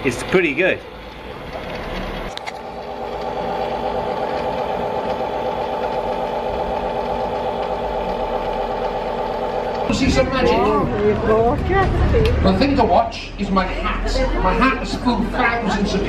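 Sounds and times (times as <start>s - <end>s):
bubble machine motor humming: 0.0s - 13.2s.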